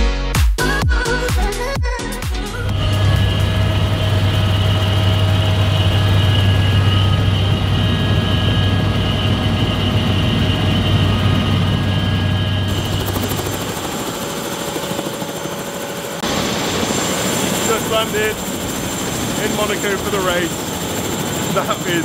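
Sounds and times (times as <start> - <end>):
helicopter rotor hum: 2.5 - 22.0
turbine whine: 2.5 - 22.0.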